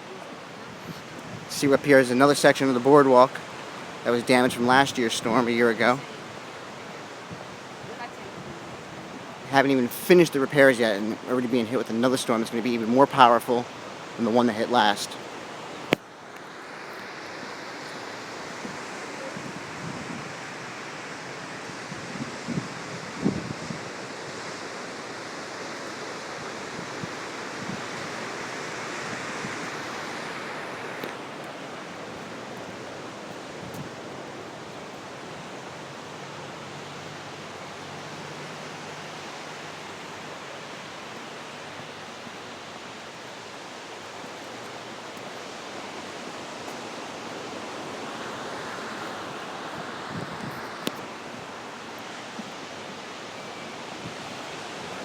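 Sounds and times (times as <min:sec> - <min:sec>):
ocean surf rushing: 0:00.0 - 0:55.0
wind: 0:00.0 - 0:55.0.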